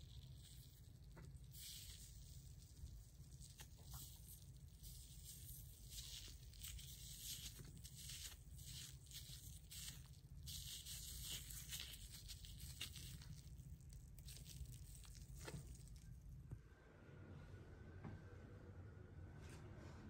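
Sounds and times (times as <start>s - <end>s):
wet cotton pad rustling and squishing: 0.0s - 16.4s.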